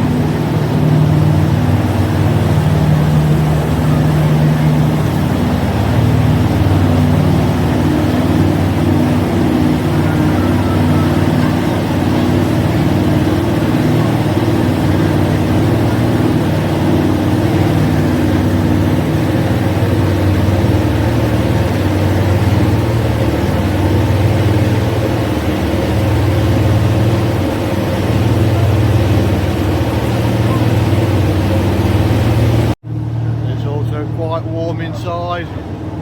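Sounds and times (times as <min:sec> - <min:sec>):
boat engines droning hum: 0:00.0 - 0:36.0.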